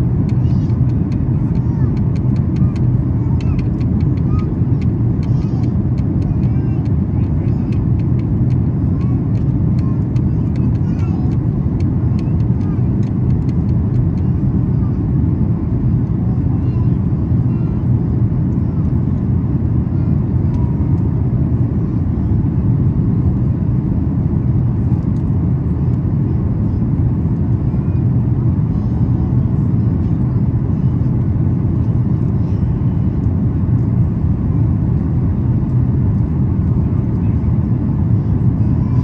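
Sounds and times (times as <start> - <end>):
airliner cabin engine and airflow rumble: 0.0 - 39.0.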